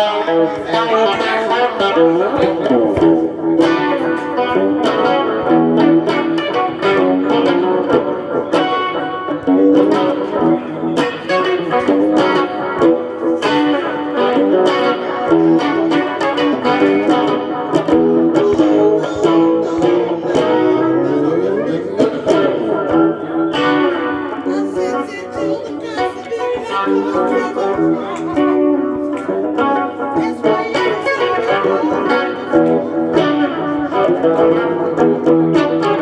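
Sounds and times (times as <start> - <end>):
guitar music with steady pulse: 0.0 - 36.0.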